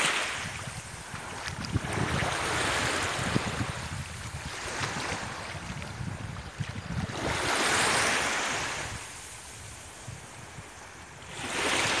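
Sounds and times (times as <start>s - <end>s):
small waves washing: 0.0s - 12.0s
wind rumble on microphone: 0.0s - 12.0s.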